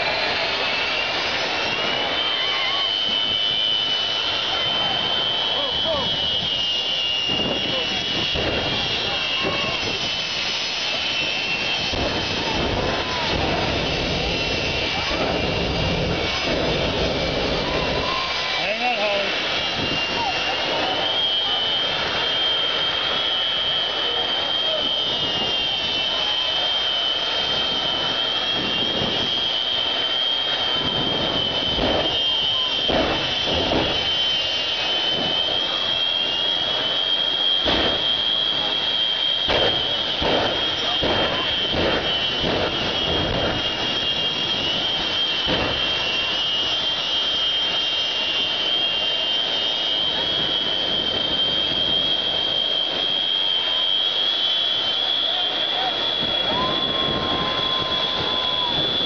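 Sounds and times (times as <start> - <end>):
jet engine roaring with high whine: 0.0 - 59.0.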